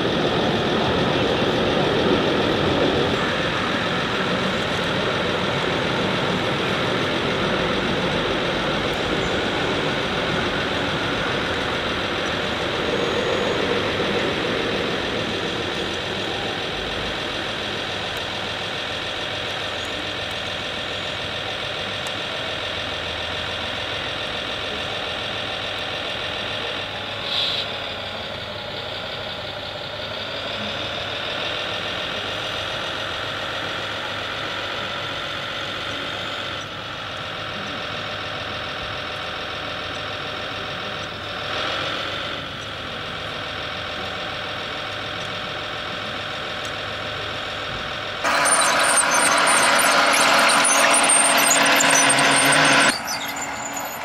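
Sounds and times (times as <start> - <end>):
model machines whining and droning: 0.0 - 54.0.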